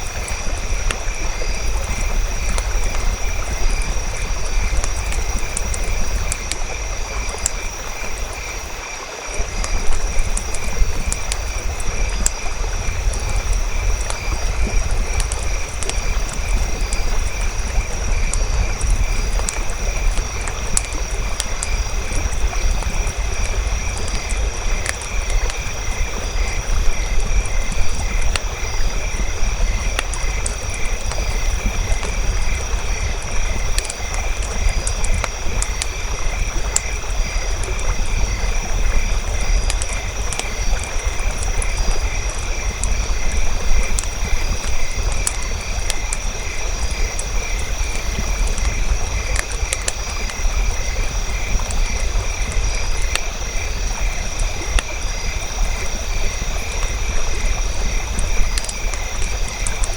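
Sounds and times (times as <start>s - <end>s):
campfire crackling and popping: 0.0s - 59.9s
fire rumbling: 0.0s - 59.9s.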